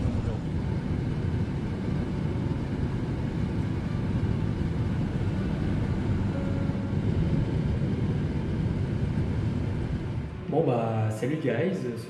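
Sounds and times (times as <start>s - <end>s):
vehicle engine and tyre rumble: 0.0s - 11.2s.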